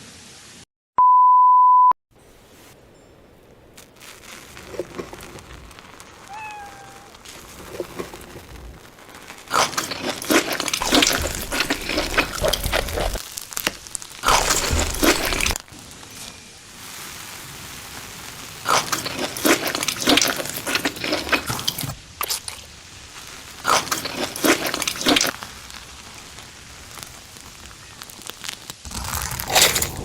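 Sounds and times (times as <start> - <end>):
crunching fried food: 4.0 - 16.3, 17.8 - 30.0.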